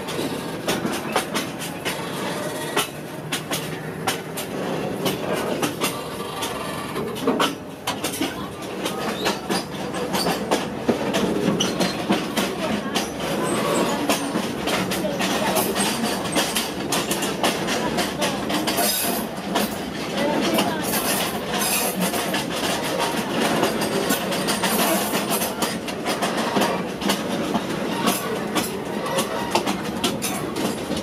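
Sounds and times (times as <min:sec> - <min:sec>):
train carriage rumbling and rattling: 0:00.0 - 0:31.0.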